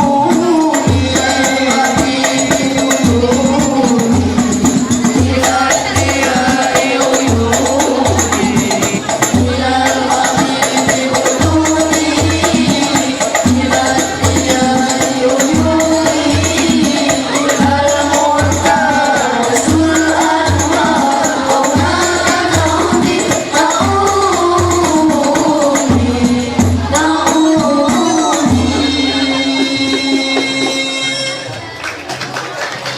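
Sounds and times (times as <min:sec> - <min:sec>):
deep drum beat: 0:00.0 - 0:30.6
quick hand-drum strokes: 0:00.0 - 0:31.0
voices singing together: 0:00.0 - 0:31.8.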